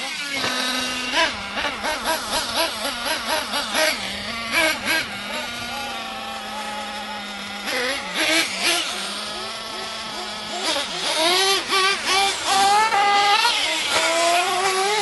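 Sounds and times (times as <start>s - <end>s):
small two-stroke engine revving: 0.0s - 15.0s.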